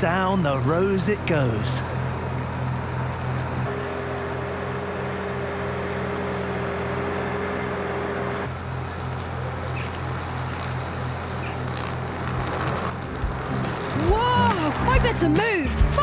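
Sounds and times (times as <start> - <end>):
mower whine: 0.0 - 16.0
tractor engine drone: 0.0 - 16.0.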